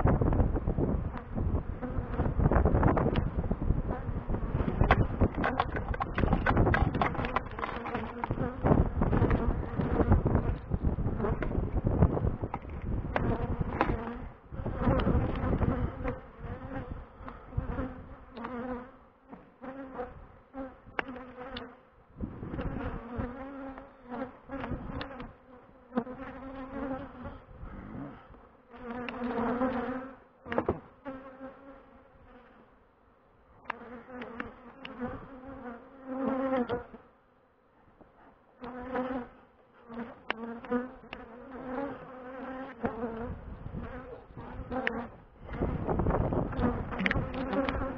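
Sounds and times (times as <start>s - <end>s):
bees buzzing: 0.0s - 32.8s, 33.6s - 37.1s, 38.6s - 47.9s.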